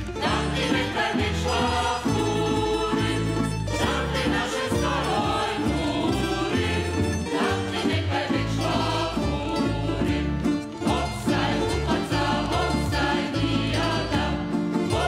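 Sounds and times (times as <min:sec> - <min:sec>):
group of voices singing: 0:00.0 - 0:15.0
plucked string band playing folk music: 0:00.0 - 0:15.0.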